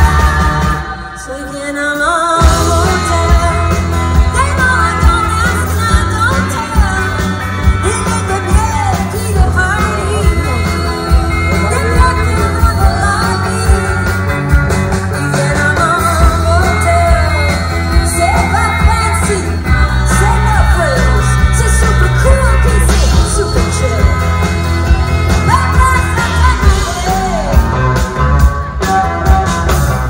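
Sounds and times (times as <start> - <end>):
heavy bass and drums: 0.0 - 1.1, 2.4 - 30.0
person singing: 0.0 - 30.0
rock band playing: 0.0 - 30.0.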